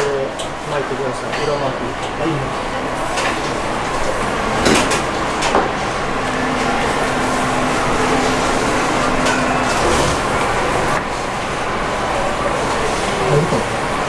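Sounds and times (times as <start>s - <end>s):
commercial kitchen background noise: 0.0s - 14.0s.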